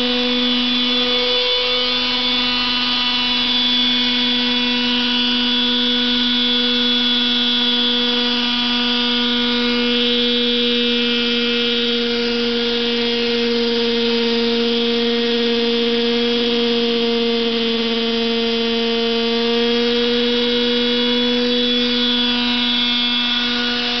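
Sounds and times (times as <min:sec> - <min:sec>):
model helicopter motor whine: 0:00.0 - 0:24.0.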